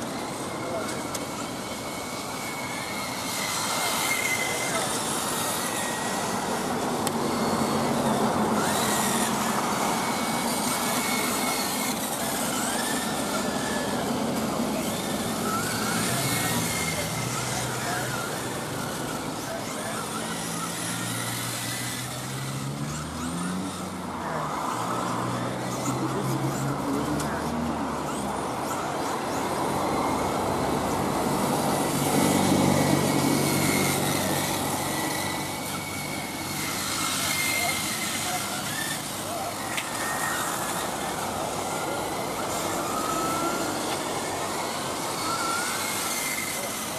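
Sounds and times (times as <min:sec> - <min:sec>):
rc cars whining: 0:00.0 - 0:46.9.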